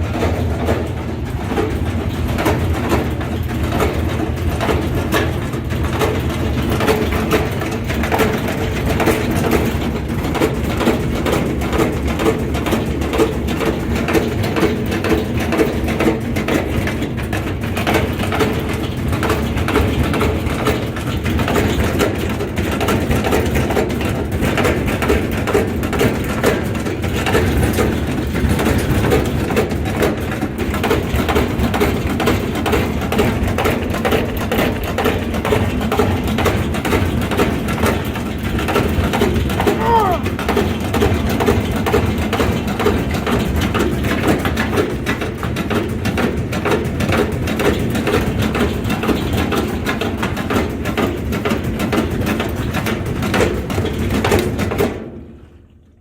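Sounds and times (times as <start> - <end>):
washing machine drum knocking: 0.0 - 55.1
washing machine rumble: 0.0 - 56.0.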